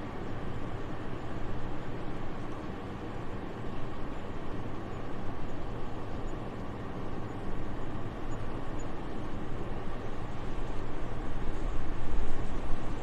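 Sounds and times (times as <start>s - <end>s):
soft steady wind: 0.0s - 13.0s.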